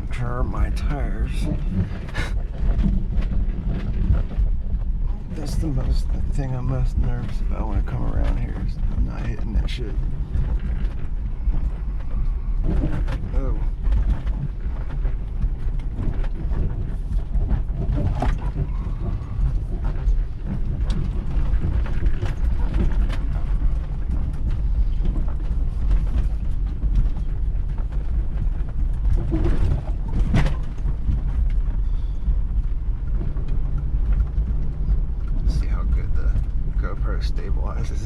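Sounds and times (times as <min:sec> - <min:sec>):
engine and tyre rumble: 0:00.0 - 0:38.0.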